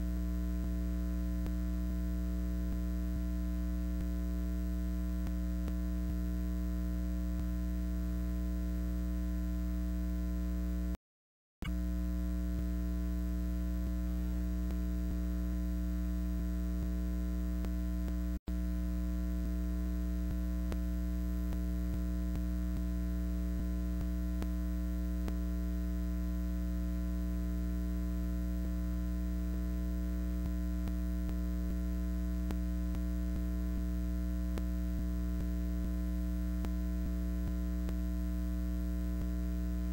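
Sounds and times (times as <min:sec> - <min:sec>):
electrical mains hum: 0:00.0 - 0:11.0, 0:11.6 - 0:39.9.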